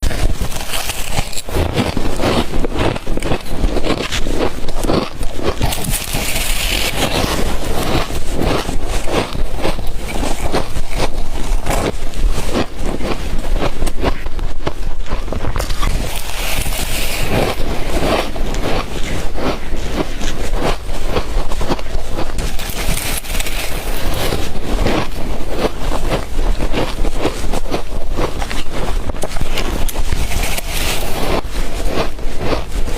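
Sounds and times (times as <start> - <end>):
shaved ice crunching: 0.0 - 13.2, 15.5 - 19.6, 21.2 - 32.9.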